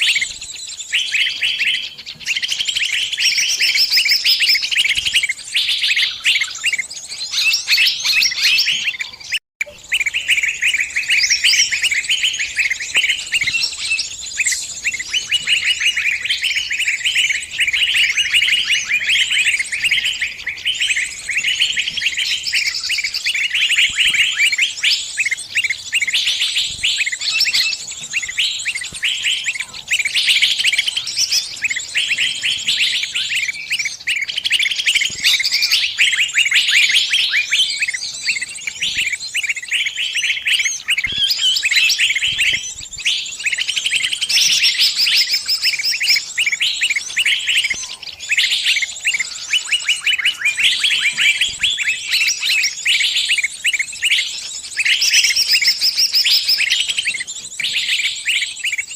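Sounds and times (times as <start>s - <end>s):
songbird shrill distress chirps: 0.0s - 58.9s.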